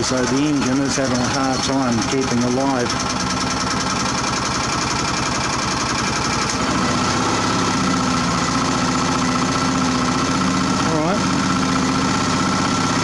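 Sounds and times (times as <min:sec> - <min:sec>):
small generator engine struggling: 0:00.0 - 0:13.0.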